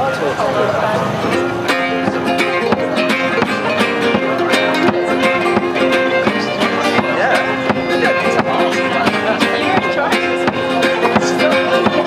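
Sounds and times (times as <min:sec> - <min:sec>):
strummed acoustic guitars: 0:00.0 - 0:12.0
fiddle holding long notes: 0:01.3 - 0:12.0.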